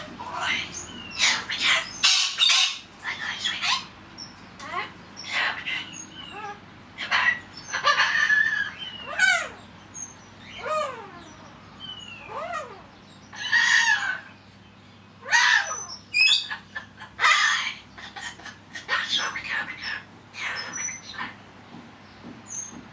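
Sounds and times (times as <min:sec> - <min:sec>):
parrot chattering: 0:00.0 - 0:14.4, 0:15.2 - 0:21.5.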